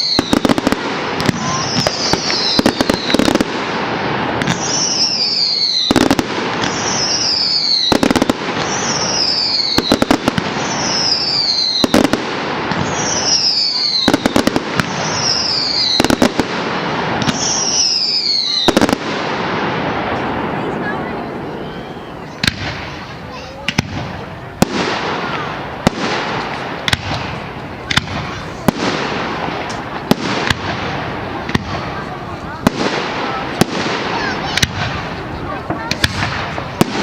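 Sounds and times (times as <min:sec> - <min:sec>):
firework bangs: 0:00.0 - 0:37.0.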